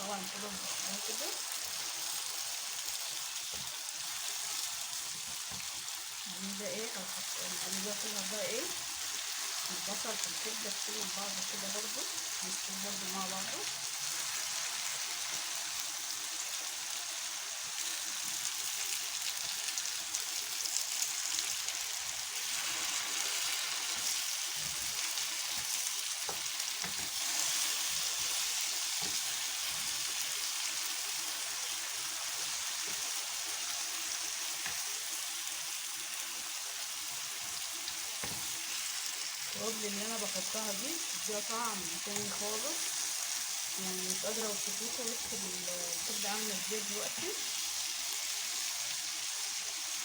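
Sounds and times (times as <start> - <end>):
food sizzling in a frying pan: 0.0 - 50.0.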